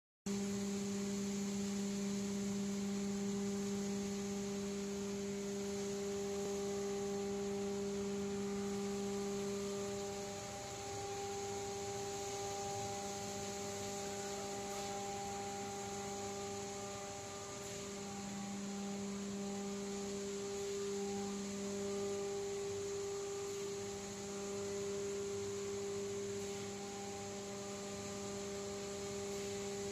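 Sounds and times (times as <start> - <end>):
machinery humming: 0.3 - 29.9.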